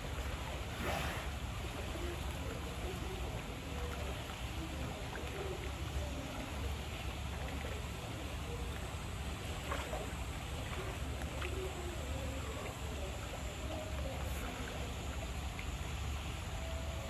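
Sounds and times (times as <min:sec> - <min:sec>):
faint distant voices: 0:00.0 - 0:17.0
low steady rumble: 0:00.0 - 0:17.0
water moving in pool: 0:00.0 - 0:17.0.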